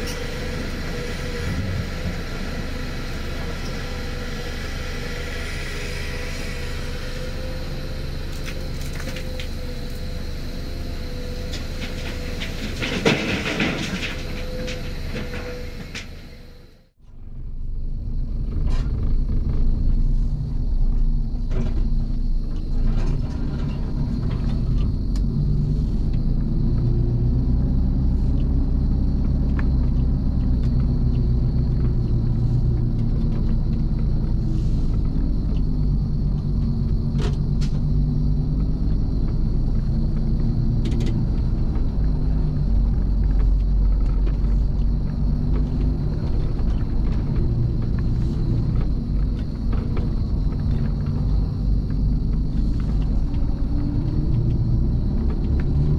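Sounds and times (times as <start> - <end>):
truck diesel engine droning: 0.0 - 55.9.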